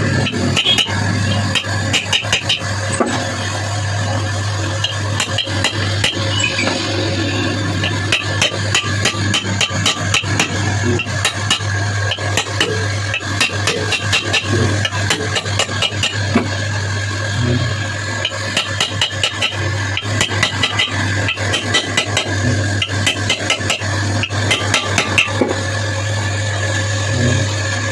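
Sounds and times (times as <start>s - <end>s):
electric motor humming: 0.0s - 27.9s.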